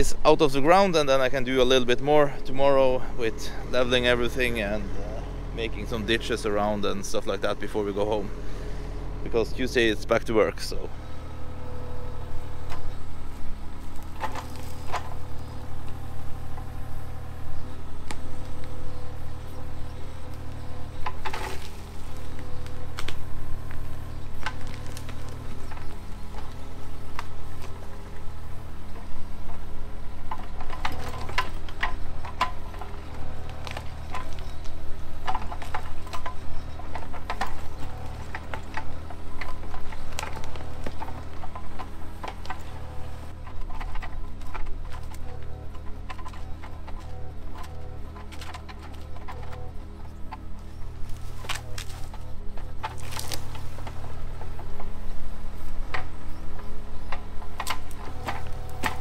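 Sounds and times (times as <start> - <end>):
excavator diesel engine running: 0.0 - 59.0
roots and wood cracking: 0.0 - 59.0.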